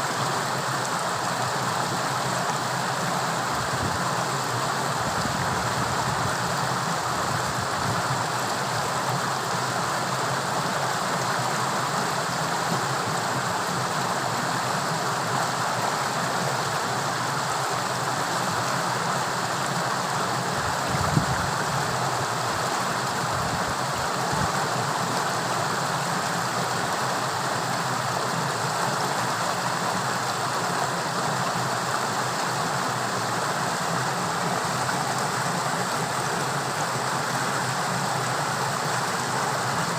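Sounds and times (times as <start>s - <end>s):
fast-flowing water rushing: 0.0s - 39.9s.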